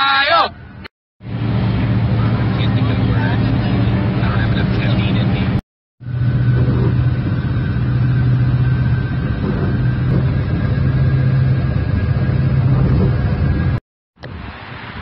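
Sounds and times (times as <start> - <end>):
car cabin engine drone: 0.1 - 15.0.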